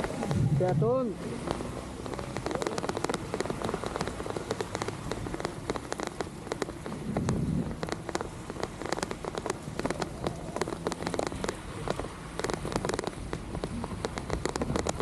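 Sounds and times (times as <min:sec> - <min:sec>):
raindrops clicking near microphone: 0:00.0 - 0:15.0
steady low rain rumble: 0:00.0 - 0:15.0.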